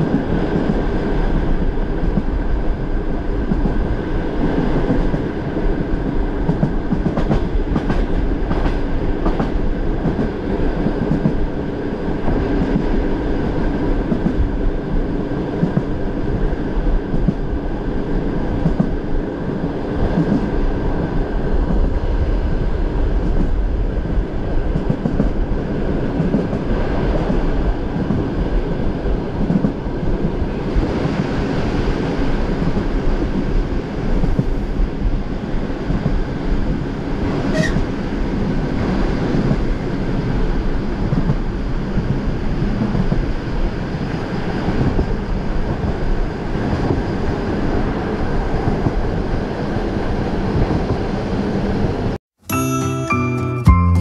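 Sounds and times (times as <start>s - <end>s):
train rumbling on track: 0.0s - 52.2s.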